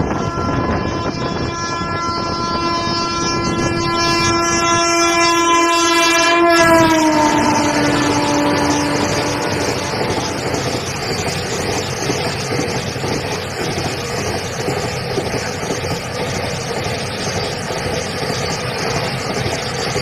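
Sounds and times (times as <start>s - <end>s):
freight train wagons rolling past: 3.3s - 20.0s.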